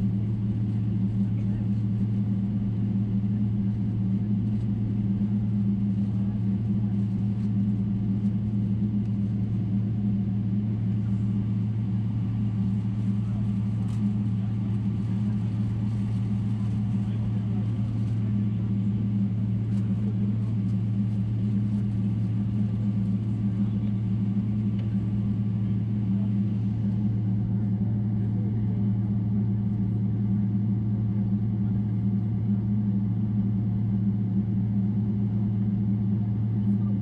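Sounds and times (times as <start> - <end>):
airplane cabin engine drone: 0.0 - 37.0.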